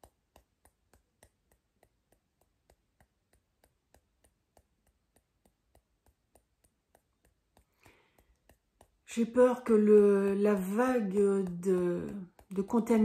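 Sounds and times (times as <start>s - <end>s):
soft fingertip taps on hand: 0.0s - 13.0s.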